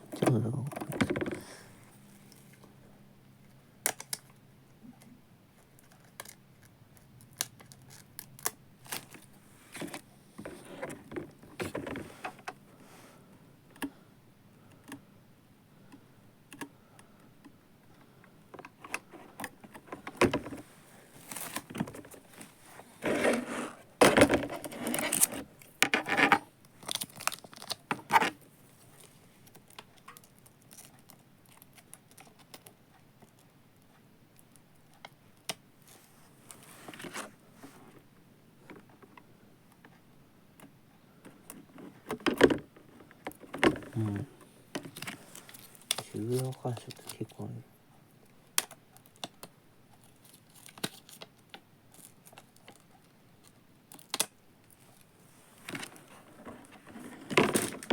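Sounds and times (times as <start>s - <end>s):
plastic parts clicking and scraping: 0.1s - 1.7s, 5.0s - 12.6s, 15.9s - 33.5s, 34.4s - 38.0s, 40.6s - 47.5s, 48.6s - 57.9s.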